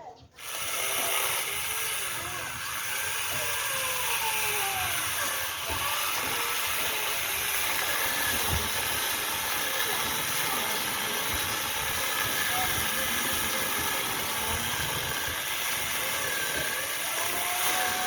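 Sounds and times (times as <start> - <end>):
angle grinder running: 0.4 - 18.0.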